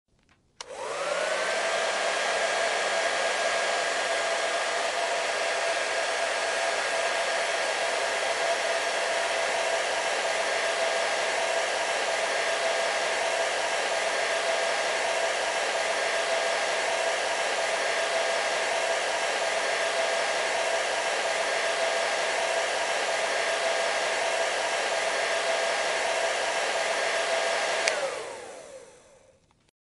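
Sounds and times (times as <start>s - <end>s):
hair dryer running: 0.6s - 29.4s.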